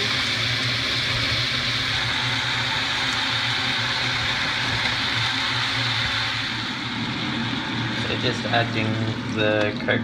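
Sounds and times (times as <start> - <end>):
meat sizzling in a frying pan: 0.0 - 10.0.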